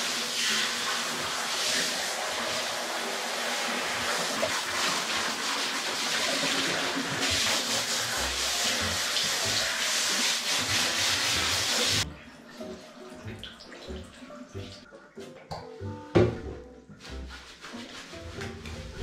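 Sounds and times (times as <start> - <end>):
shower water spraying: 0.0 - 14.8, 16.9 - 19.0.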